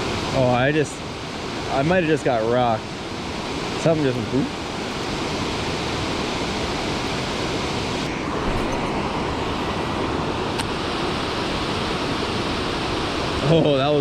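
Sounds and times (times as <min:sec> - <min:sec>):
water rushing from dam: 0:00.0 - 0:14.0.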